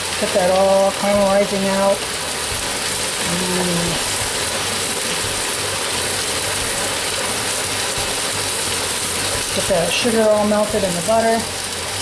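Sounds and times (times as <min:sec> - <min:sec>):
butter and sugar sizzling: 0:00.0 - 0:12.0.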